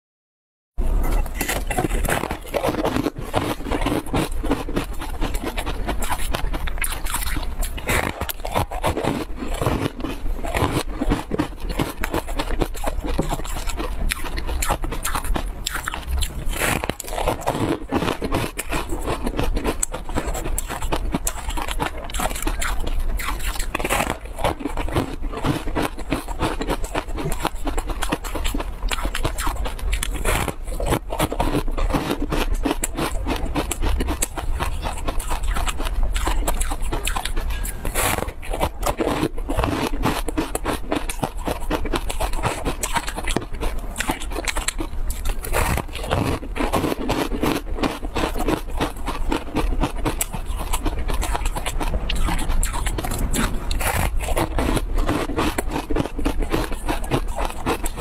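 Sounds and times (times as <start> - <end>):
crunchy snack being chewed: 0.8 - 58.0.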